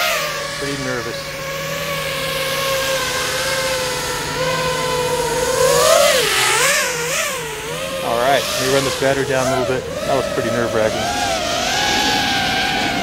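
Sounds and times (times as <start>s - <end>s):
drone motors buzzing whine: 0.0s - 13.0s.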